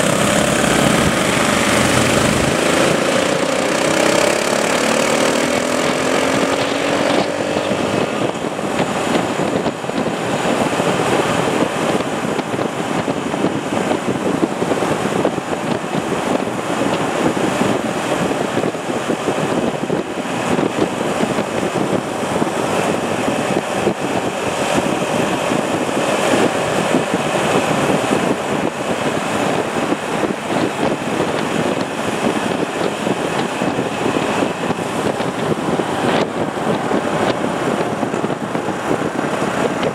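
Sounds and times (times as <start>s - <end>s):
motorcycle engines: 0.0s - 39.9s
wind rushing over microphone: 0.0s - 39.9s.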